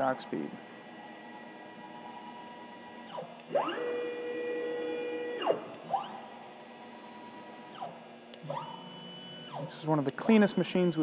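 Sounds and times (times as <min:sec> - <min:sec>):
motors whining: 0:00.2 - 0:11.0.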